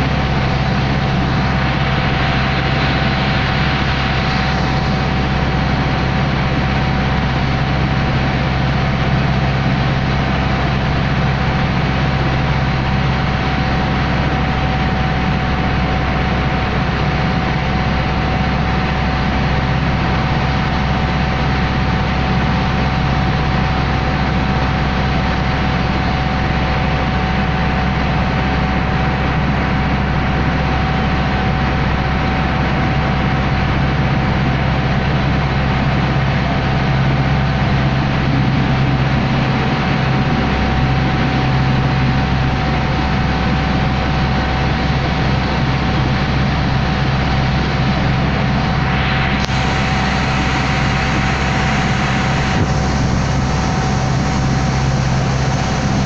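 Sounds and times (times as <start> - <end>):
boat engine droning with whine: 0.0 - 56.0.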